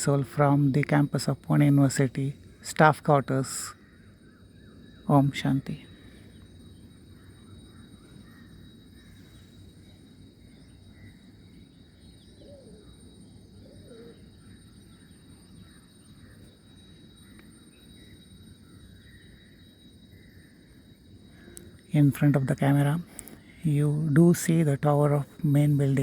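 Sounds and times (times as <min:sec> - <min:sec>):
steady low background hum: 0:00.0 - 0:26.0.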